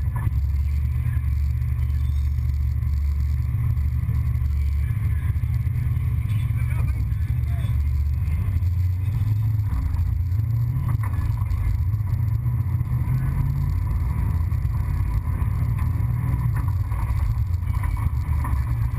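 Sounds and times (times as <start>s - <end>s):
race car engine running low: 0.0s - 18.9s.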